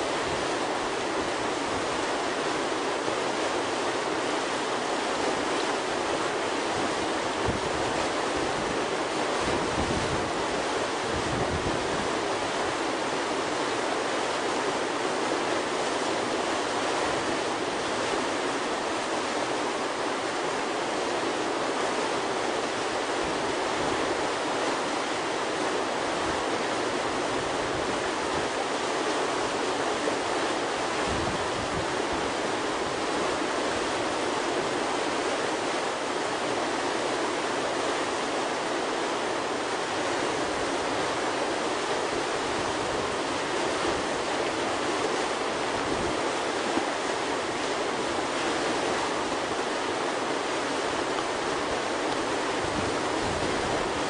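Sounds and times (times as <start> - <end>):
whitewater rushing: 0.0 - 54.0.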